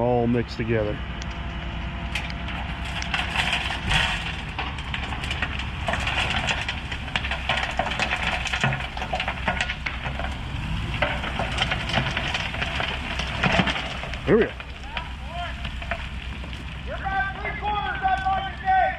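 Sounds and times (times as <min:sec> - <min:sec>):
dense crackling and crunching: 0:00.0 - 0:18.9
diesel engine rumbling: 0:00.0 - 0:18.9.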